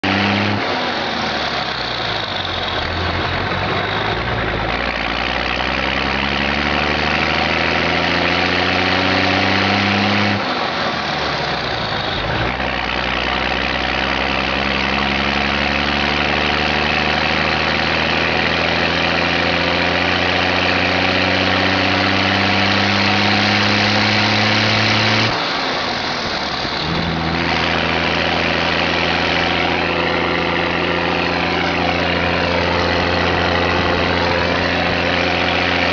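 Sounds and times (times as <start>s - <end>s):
truck diesel engine accelerating: 0.0s - 35.9s.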